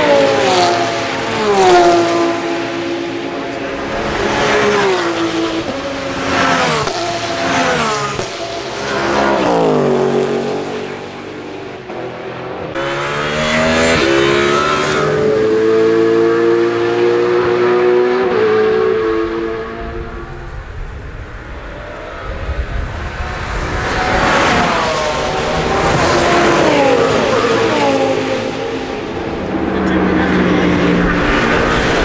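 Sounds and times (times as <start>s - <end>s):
race cars passing at speed: 0.0s - 32.0s.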